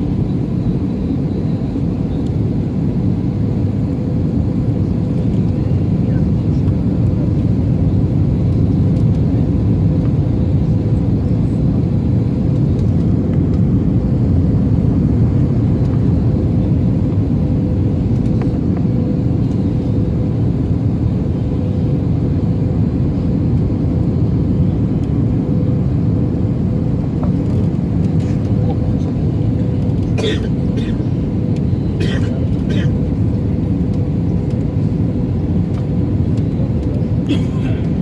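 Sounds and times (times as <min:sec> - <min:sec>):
engine and airflow roar: 0:00.0 - 0:38.0.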